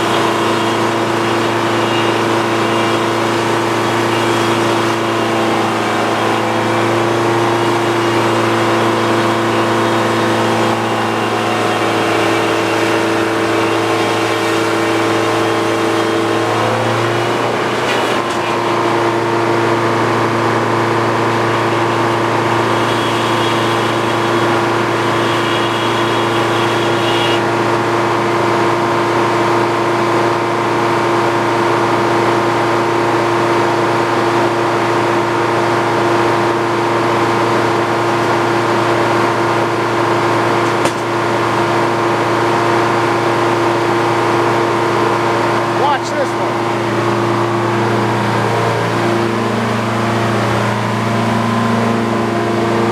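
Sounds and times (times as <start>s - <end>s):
circular sawmill running: 0.0s - 52.9s.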